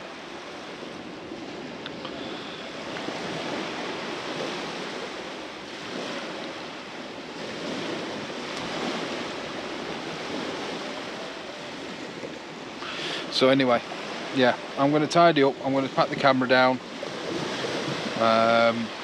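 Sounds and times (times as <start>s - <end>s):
sea surf washing onto beach: 0.0s - 19.0s.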